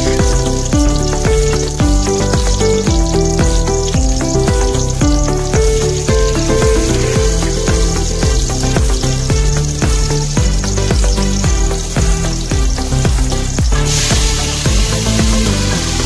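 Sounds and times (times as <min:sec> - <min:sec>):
background music with beat: 0:00.0 - 0:16.0
onion sizzling in oil: 0:00.0 - 0:16.0.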